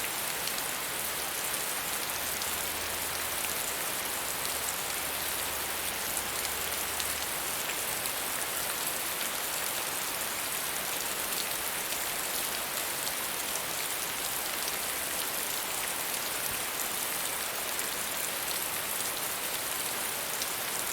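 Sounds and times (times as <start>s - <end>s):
steady rainfall: 0.0s - 20.9s.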